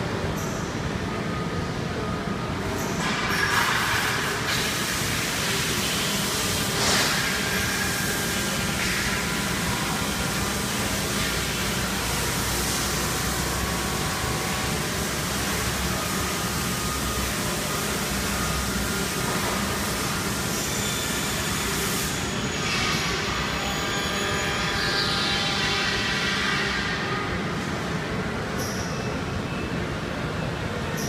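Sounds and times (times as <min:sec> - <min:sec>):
shop machinery drone: 0:00.0 - 0:31.0.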